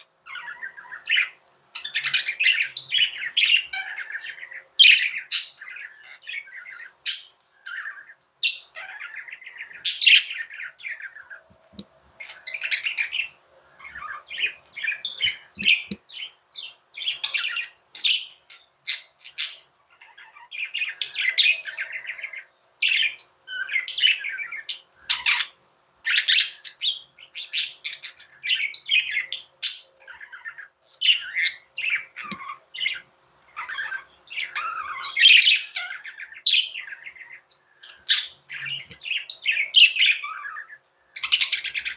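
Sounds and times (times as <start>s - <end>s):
budgerigars chirping and warbling: 0.0s - 41.9s.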